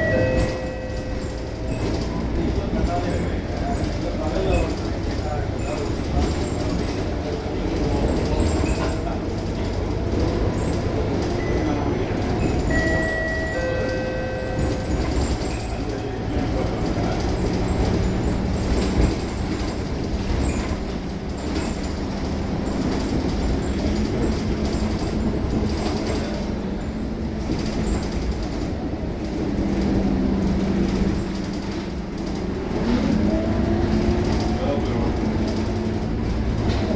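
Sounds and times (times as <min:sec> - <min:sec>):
bus diesel engine: 0:00.0 - 0:36.9
road noise: 0:00.0 - 0:36.9.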